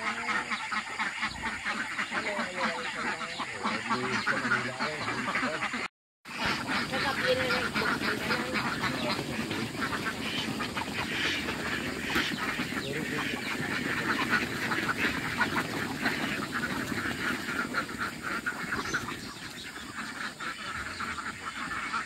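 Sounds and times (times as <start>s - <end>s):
flock of ducks quacking: 0.0s - 22.0s.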